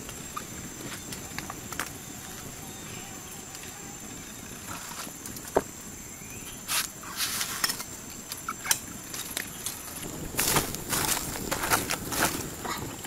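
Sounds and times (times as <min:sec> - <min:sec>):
rustling leaves and sticks: 0:00.0 - 0:13.0.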